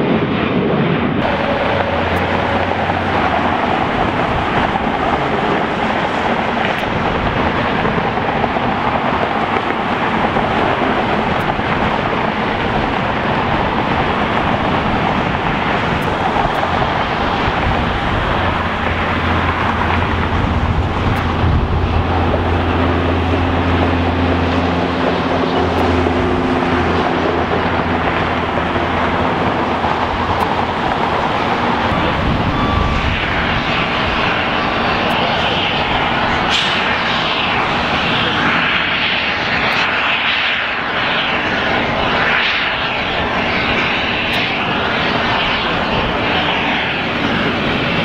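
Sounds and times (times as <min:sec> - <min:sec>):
jet engines rushing: 0:00.0 - 0:48.0
low droning hum: 0:01.2 - 0:48.0.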